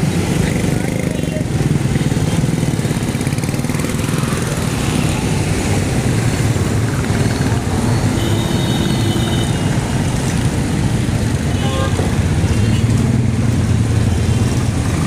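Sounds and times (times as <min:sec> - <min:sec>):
small engines droning in traffic: 0:00.0 - 0:15.0.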